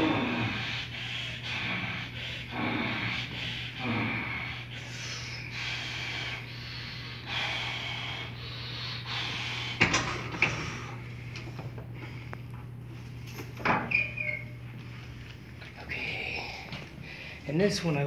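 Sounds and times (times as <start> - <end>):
heavy forceful breathing: 0.0 - 13.4, 15.0 - 17.7
steady low hum: 0.0 - 18.0.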